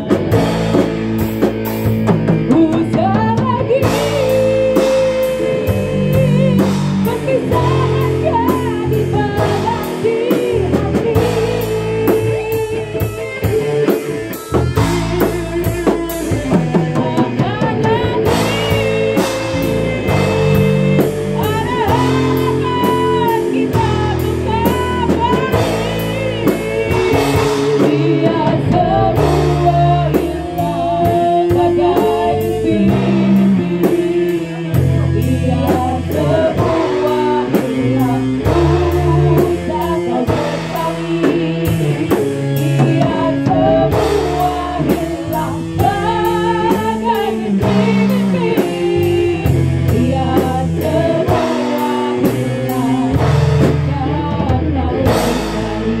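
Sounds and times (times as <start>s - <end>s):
pitch-bending lead melody: 0.0s - 56.0s
rock band playing: 0.0s - 56.0s.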